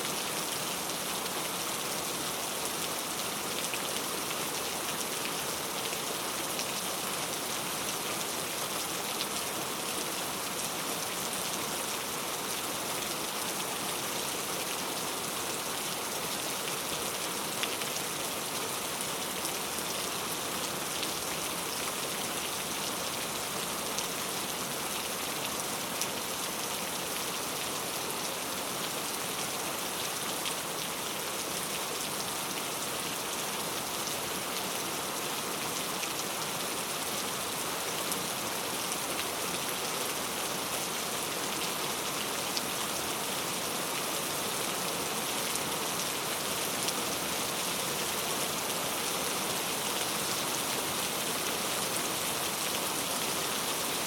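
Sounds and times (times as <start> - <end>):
rain pattering on a surface: 0.1 - 54.0.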